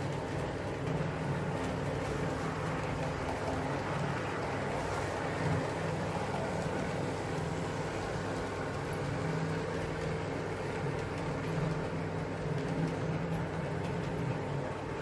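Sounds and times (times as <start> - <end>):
model locomotive motors humming: 0.0 - 15.0.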